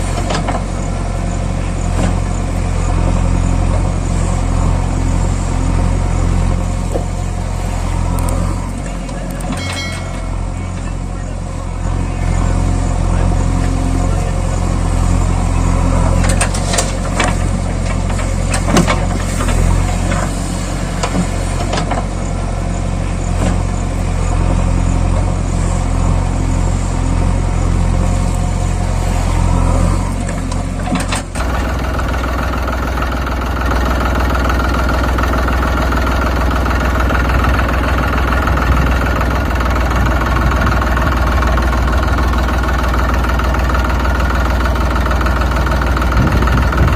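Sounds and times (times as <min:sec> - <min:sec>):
steady engine hum: 0:00.0 - 0:46.9
vehicle engine running: 0:00.0 - 0:46.9.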